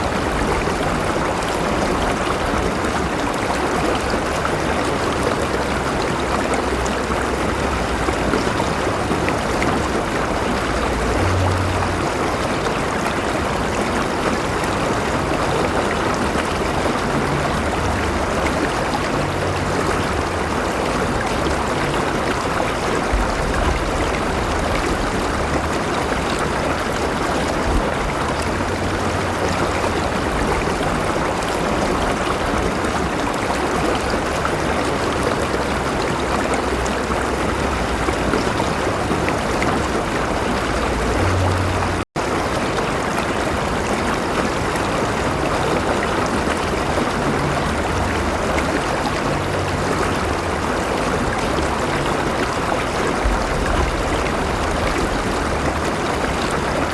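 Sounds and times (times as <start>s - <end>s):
river flowing: 0.0s - 56.9s.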